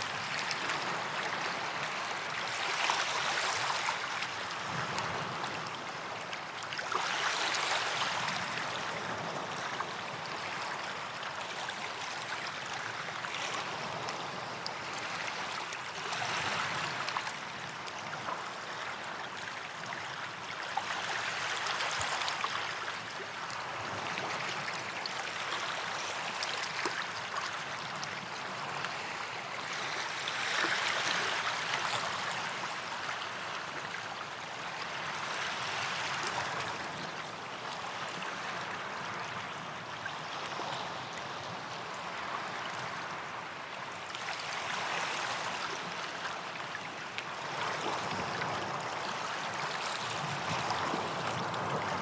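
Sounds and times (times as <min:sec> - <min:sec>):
small waves on sandy beach: 0:00.0 - 0:52.0.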